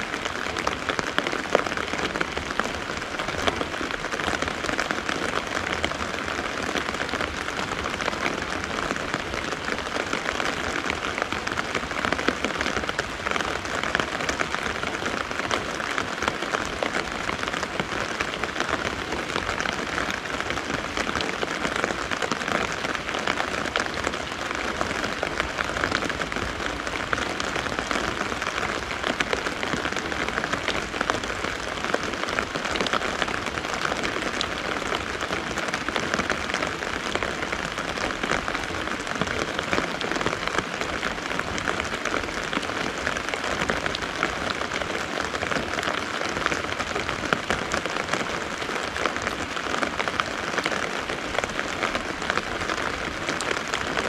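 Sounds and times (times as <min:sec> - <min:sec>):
rain on umbrella fabric: 0:00.0 - 0:54.0.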